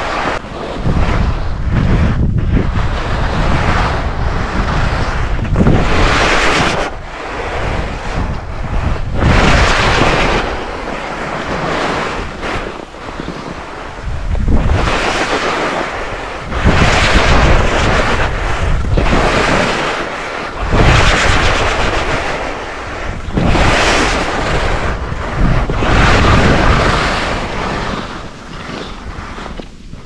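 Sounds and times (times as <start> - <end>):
skis scraping across snow: 0.0 - 30.0
wind buffeting microphone: 0.0 - 30.0.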